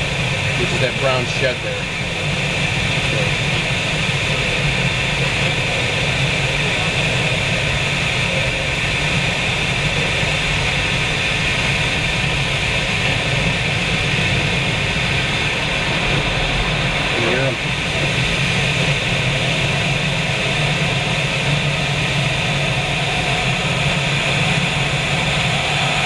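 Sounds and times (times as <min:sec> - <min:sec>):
airflow rushing into cockpit: 0:00.0 - 0:26.0.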